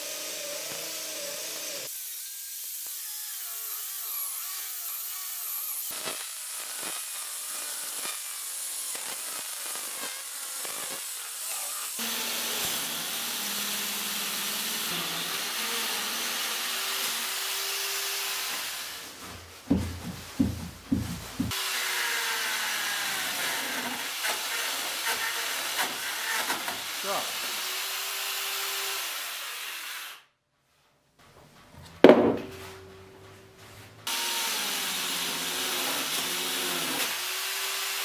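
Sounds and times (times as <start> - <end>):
chainsaw cutting log: 0.0 - 3.0, 3.7 - 19.0, 19.7 - 30.2, 34.0 - 38.0.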